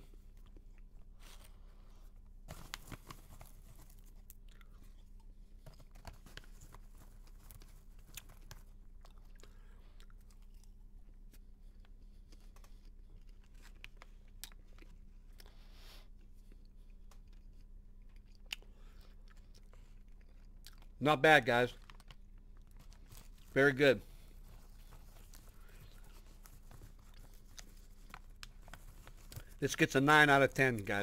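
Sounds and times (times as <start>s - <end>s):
popcorn being chewed: 0.0s - 21.0s, 21.7s - 31.0s.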